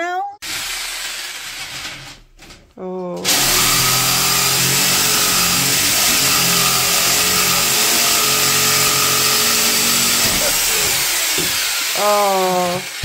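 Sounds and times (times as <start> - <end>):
power tool cutting metal pipe: 0.4 - 2.0, 3.2 - 13.0.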